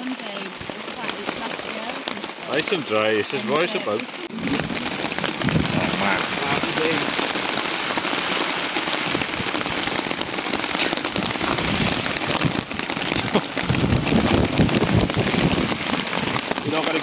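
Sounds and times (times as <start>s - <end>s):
rain on tent fabric: 0.0s - 17.0s.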